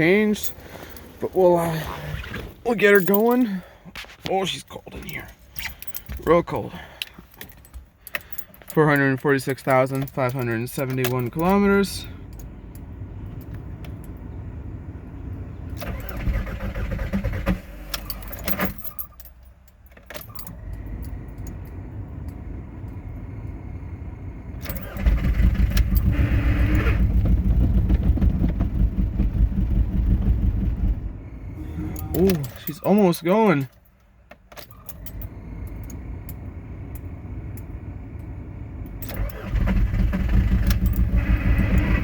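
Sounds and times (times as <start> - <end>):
diesel engine cranking: 0.0 - 42.0.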